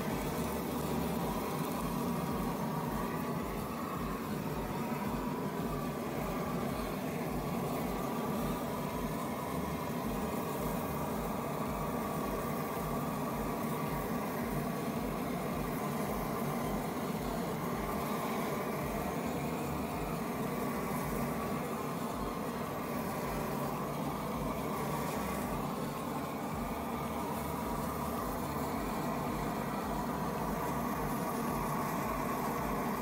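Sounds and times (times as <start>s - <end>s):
steady machine hum: 0.0s - 33.0s
welding arc crackling: 0.0s - 33.0s.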